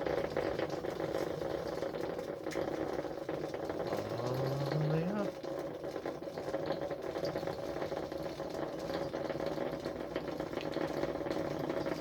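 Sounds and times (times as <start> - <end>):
coffee maker bubbling: 0.0 - 12.0.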